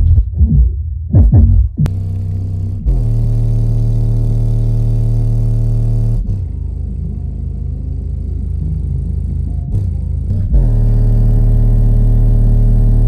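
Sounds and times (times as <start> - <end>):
subwoofer playing bass: 0.0 - 13.0.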